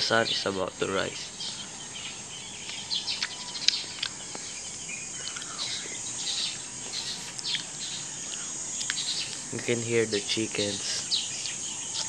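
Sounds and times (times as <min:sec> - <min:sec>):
high hum of insects: 0:00.0 - 0:12.0
small birds chirping: 0:00.0 - 0:12.0.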